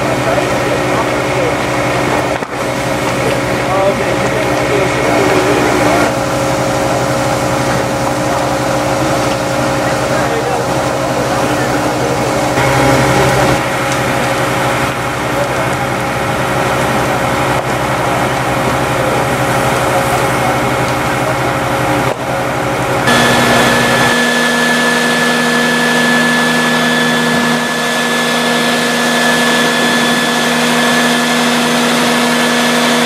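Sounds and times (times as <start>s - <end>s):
fire engine pump droning: 0.0s - 33.0s.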